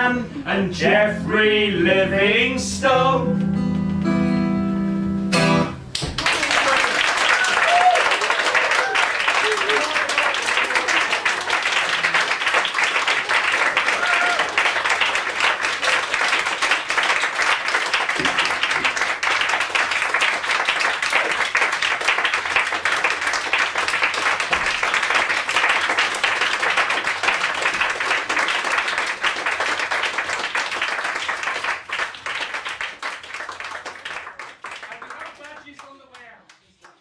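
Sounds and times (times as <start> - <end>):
audience applauding: 5.9 - 37.0.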